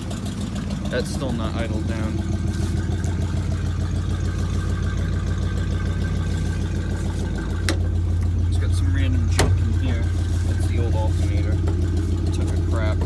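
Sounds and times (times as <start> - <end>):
engine running at fast idle: 0.0 - 13.0.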